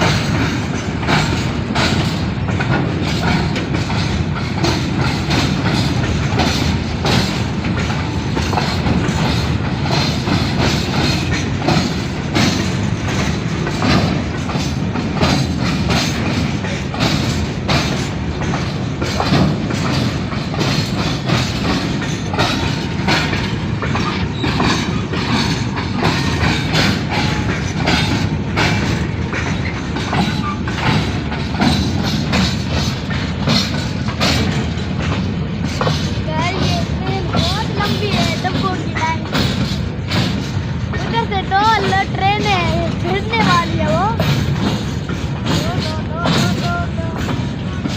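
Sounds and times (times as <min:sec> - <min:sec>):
train rumbling past: 0:00.0 - 0:47.9
train wheels clattering: 0:00.0 - 0:47.9.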